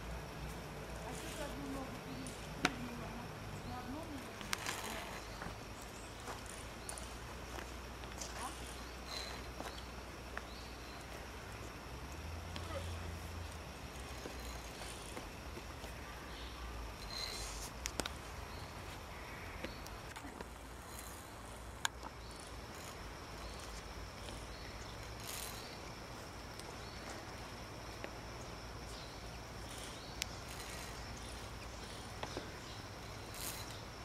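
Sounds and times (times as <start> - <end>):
high insect-like buzz: 0.0 - 34.0.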